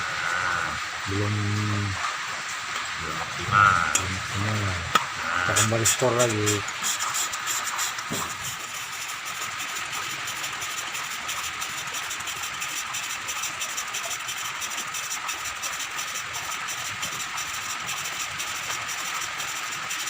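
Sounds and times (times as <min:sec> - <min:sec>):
gritty scraping of valve lapping: 0:02.8 - 0:20.0.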